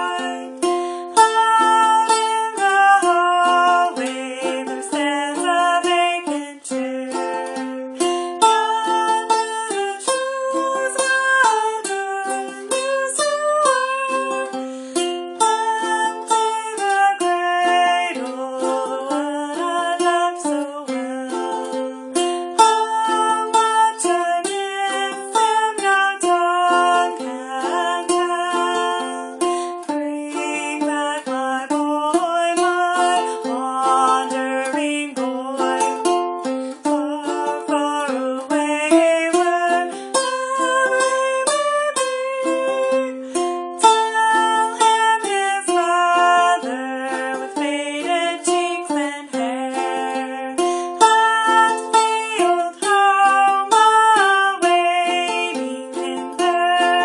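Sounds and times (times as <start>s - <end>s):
ukulele plucked and strummed: 0.0s - 57.0s.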